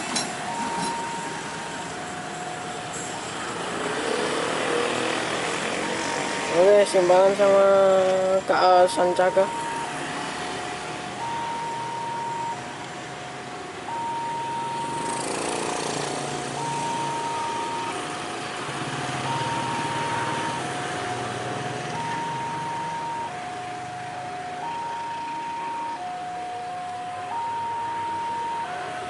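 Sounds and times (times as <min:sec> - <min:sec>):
railway two-tone warning alarm: 0:00.0 - 0:05.0, 0:05.9 - 0:12.8, 0:13.4 - 0:29.0.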